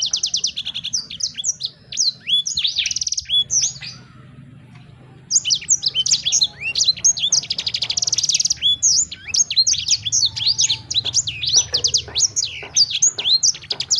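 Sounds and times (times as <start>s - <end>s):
songbird singing: 0.0s - 13.9s.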